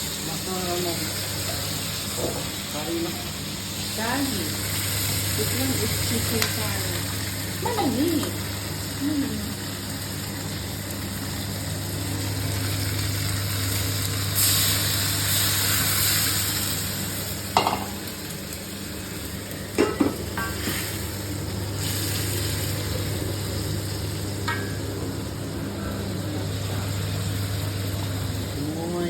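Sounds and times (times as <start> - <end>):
curry sizzling in a pan: 0.0 - 29.0.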